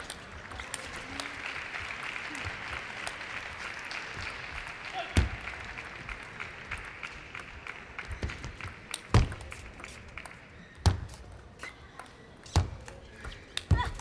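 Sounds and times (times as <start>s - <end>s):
people clapping: 0.0s - 11.2s, 12.8s - 14.0s.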